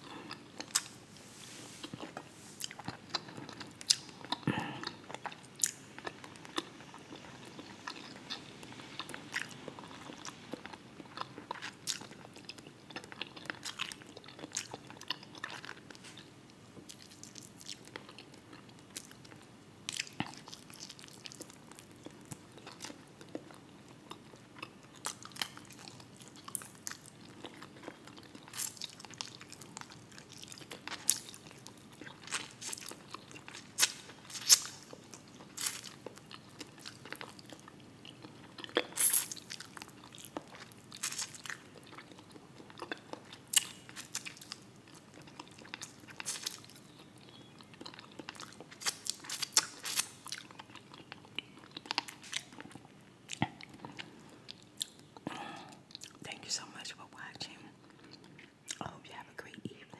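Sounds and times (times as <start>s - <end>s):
person chewing crunchy food: 0.0s - 56.2s.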